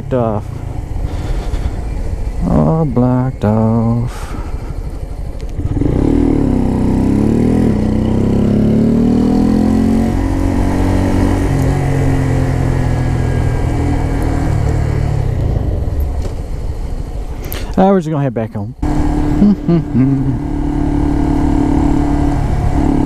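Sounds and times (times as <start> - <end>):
motorcycle engine accelerating: 0.0 - 17.4, 18.8 - 23.0.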